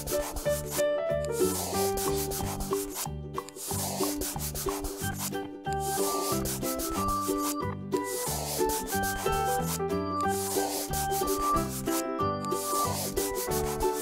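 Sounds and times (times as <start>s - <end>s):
pen scratching on paper: 0.0s - 14.0s
simple background tune: 0.0s - 14.0s.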